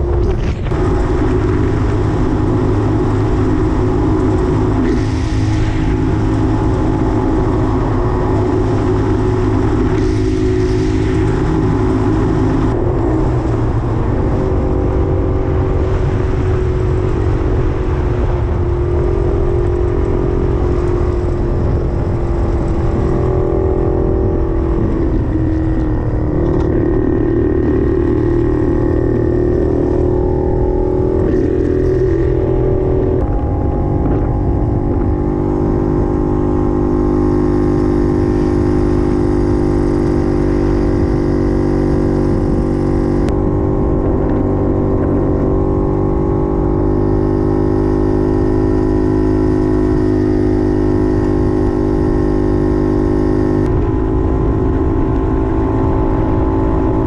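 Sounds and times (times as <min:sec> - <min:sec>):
two-stroke motorcycle engine: 0:00.0 - 0:57.0
wind and road noise: 0:00.0 - 0:57.0.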